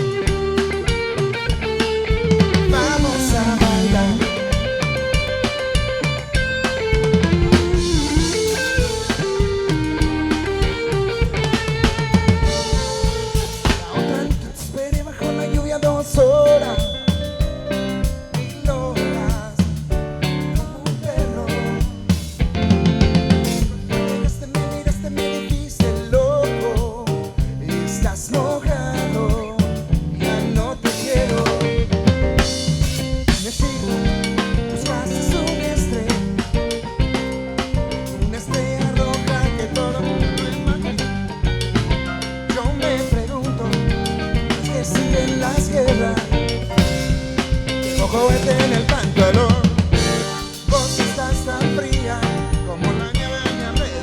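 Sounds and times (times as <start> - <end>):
wavering melodic lead lines: 0.0 - 28.1, 28.9 - 54.0
drum kit: 0.0 - 54.0
rock band playing: 0.0 - 54.0.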